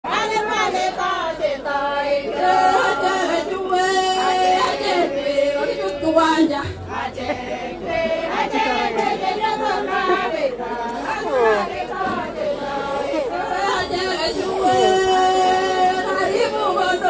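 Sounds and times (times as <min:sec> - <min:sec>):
women's choir singing: 0:00.0 - 0:17.0.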